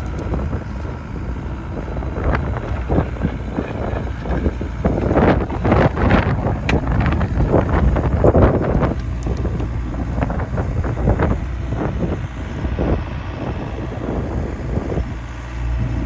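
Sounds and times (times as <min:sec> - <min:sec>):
excavator engine running: 0:00.0 - 0:16.0
wind buffeting microphone: 0:00.0 - 0:16.0.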